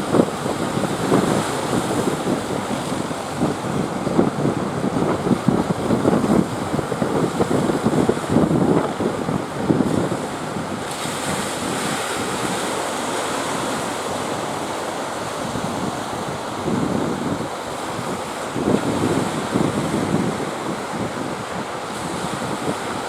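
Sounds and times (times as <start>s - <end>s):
sea surf waves: 0.0s - 23.0s
wind buffeting microphone: 0.0s - 23.0s.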